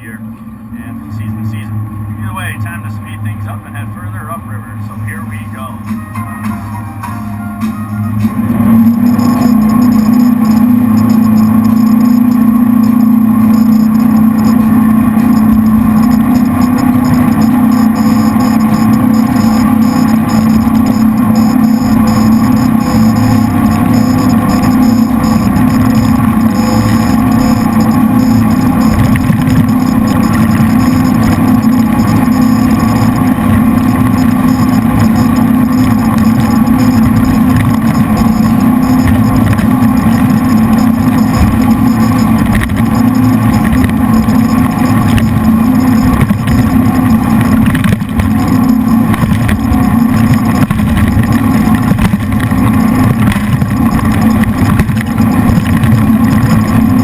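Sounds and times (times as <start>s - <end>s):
boat engines running at speed: 0.0s - 57.0s.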